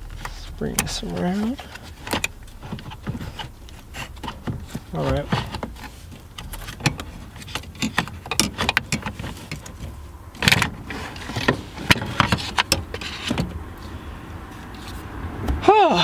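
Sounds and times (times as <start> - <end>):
parts clattering: 0.0 - 14.0
clicks and clinks of car parts: 0.1 - 13.9.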